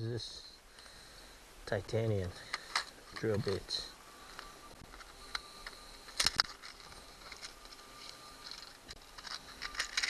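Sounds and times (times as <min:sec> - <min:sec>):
faint ticks and rattles: 0:00.0 - 0:10.0.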